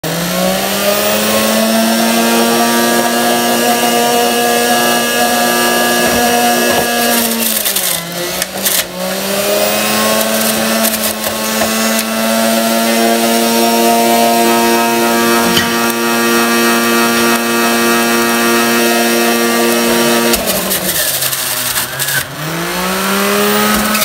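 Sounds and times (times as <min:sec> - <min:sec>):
juicer motor whine: 0:00.0 - 0:24.0.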